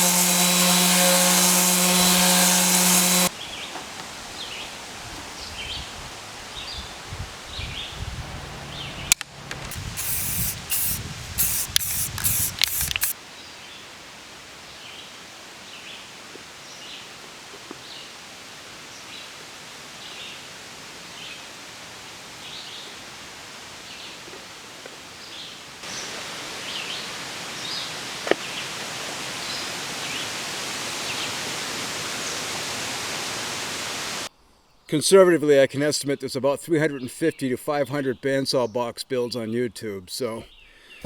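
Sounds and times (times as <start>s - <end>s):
outdoor hiss: 0.0s - 34.9s.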